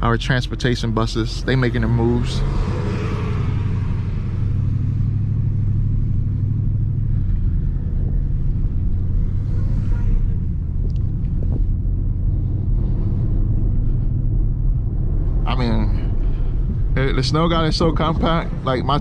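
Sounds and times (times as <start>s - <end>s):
car engine low rumble: 0.0s - 19.0s
tyre noise on snowy road: 0.8s - 19.0s.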